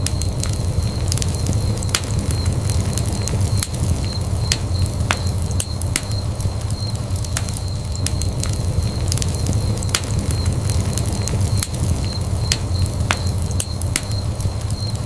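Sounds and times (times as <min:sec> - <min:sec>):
flames rumbling: 0:00.0 - 0:15.0
wood fire crackling and popping: 0:00.0 - 0:15.0.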